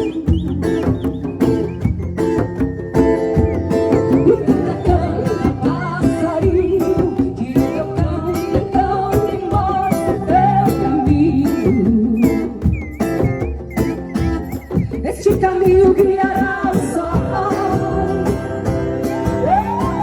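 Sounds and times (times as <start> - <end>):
acoustic guitar: 0.0 - 20.0
steady percussion: 0.0 - 20.0.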